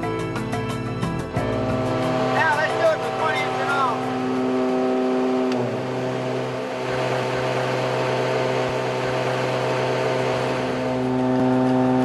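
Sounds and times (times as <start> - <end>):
aircraft engine drone: 1.2 - 12.0.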